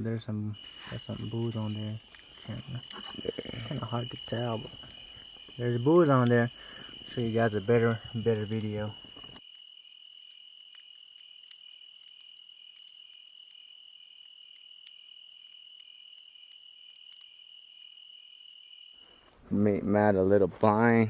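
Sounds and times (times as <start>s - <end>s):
cricket chirping in pulses: 0.0s - 21.0s
cricket high trill: 0.0s - 21.0s.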